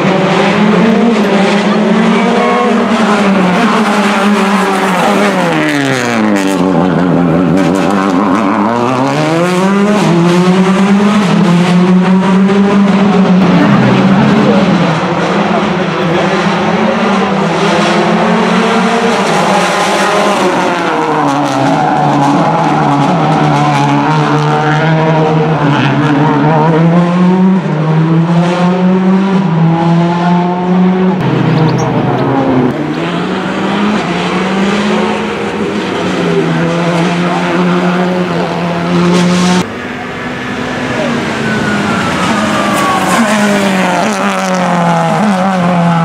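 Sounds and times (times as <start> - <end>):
car engine at held revs: 0.0 - 46.0.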